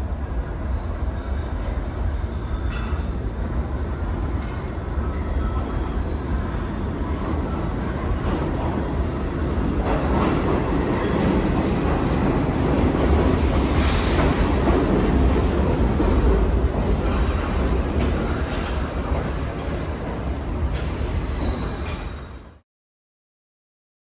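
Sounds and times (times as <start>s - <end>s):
subway train rumbling: 0.0s - 22.6s.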